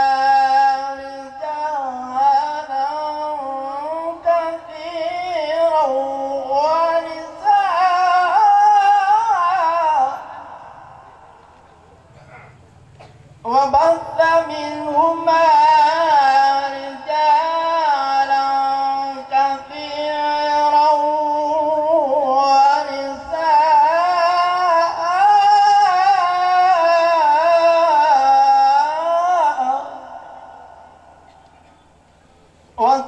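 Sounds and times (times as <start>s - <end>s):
man chanting over sound system: 0.0s - 12.6s, 13.4s - 31.3s, 32.8s - 33.0s.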